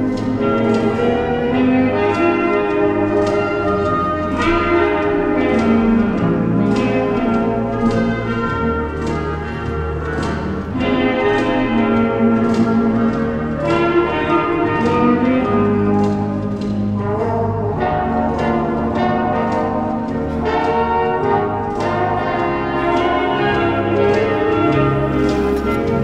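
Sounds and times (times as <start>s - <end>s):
foxtrot dance music: 0.0s - 26.0s.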